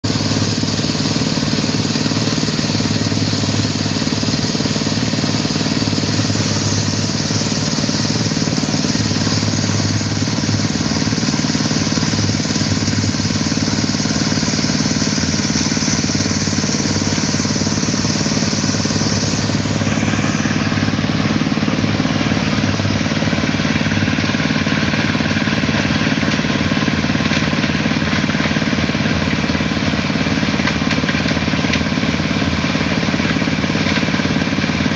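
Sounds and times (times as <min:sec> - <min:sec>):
concrete mixer engine running: 0:00.0 - 0:34.9.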